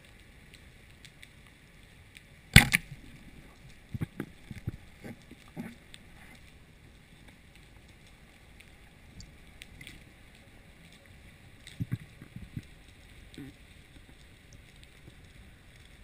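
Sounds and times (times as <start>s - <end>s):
faint clicks: 0.0s - 16.0s
muffled underwater hiss: 0.0s - 16.0s.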